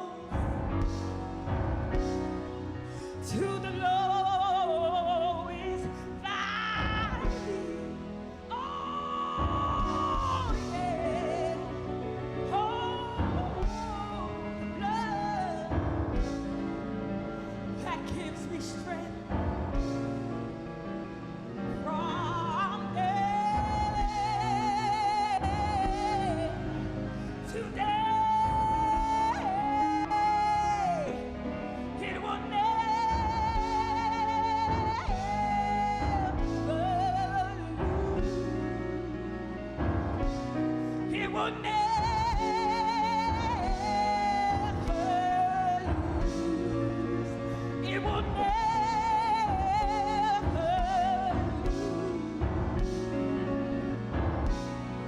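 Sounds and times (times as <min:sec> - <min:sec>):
woman singing gospel song: 0:00.0 - 0:20.6, 0:21.5 - 0:55.0
instrumental accompaniment: 0:00.0 - 0:55.0.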